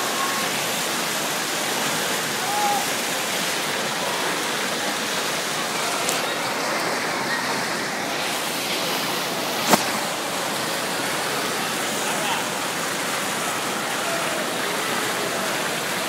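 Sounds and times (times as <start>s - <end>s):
water jet splashing: 0.0s - 16.0s.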